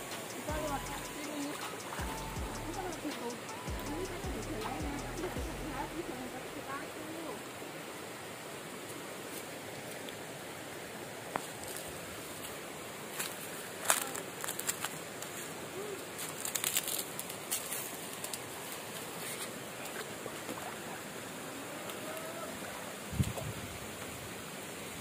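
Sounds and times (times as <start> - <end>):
waterfall and stream rushing: 0.0 - 25.0.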